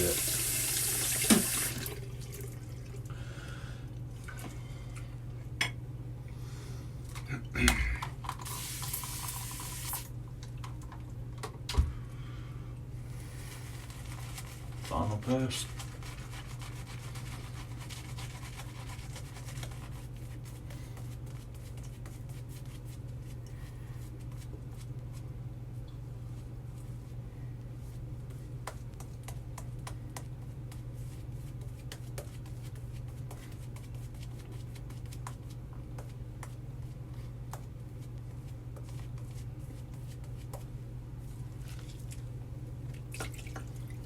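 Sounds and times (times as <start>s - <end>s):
steady low hum: 1.8s - 9.0s, 10.0s - 44.0s.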